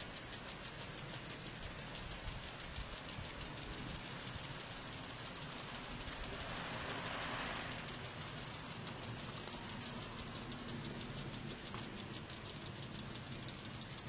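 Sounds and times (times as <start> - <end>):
sprinkler water pattering on shingles: 0.0 - 14.0.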